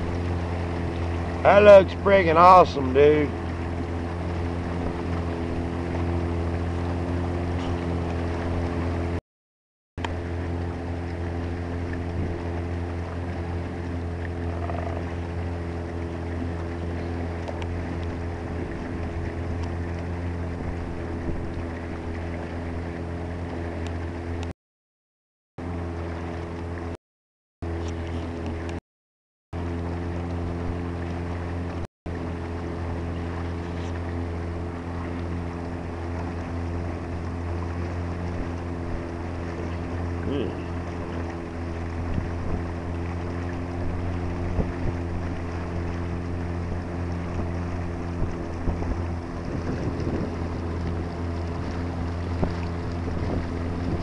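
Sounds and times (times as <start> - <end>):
boat motor droning: 0.0 - 9.2, 10.0 - 24.6, 25.6 - 27.0, 27.6 - 28.8, 29.5 - 54.0.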